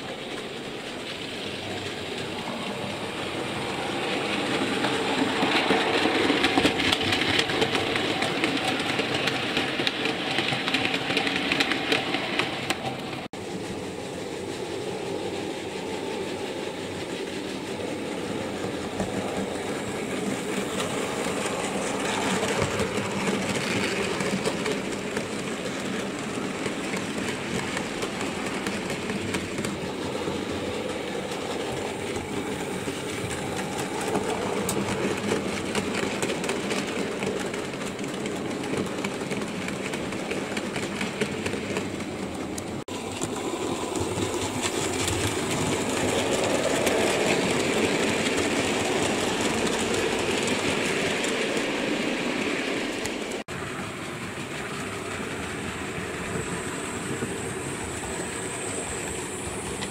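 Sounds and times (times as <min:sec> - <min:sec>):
model train running on track: 0:00.0 - 0:59.9.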